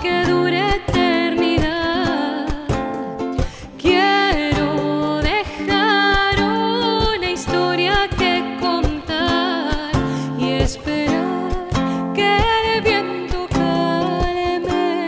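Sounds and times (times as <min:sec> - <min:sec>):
acoustic guitar: 0:00.0 - 0:15.0
hand percussion: 0:00.0 - 0:15.0
woman singing: 0:00.0 - 0:15.0.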